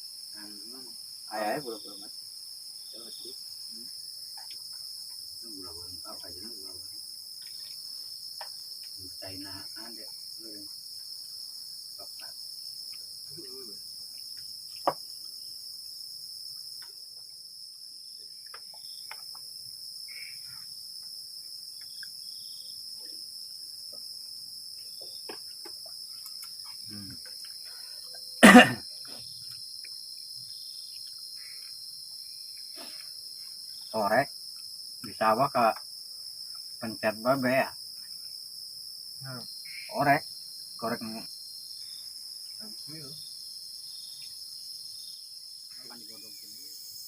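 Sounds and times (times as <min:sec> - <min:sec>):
crickets and insects trilling: 0:00.0 - 0:47.0.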